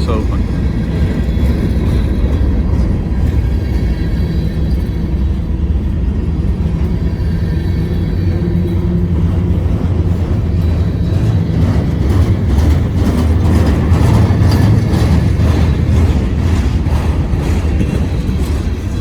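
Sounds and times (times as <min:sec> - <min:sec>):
train cars rumbling past: 0:00.0 - 0:19.0
train wheels clicking and knocking: 0:00.0 - 0:19.0.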